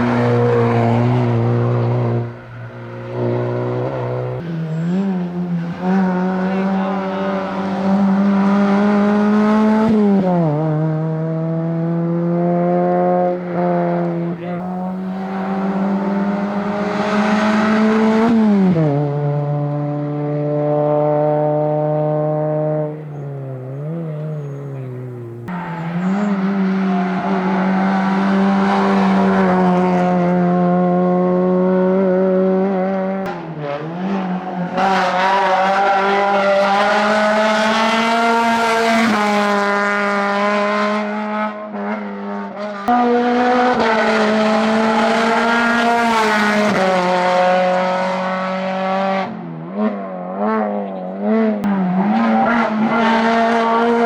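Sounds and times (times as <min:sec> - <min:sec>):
rally car engine at high revs: 0:00.0 - 0:54.0.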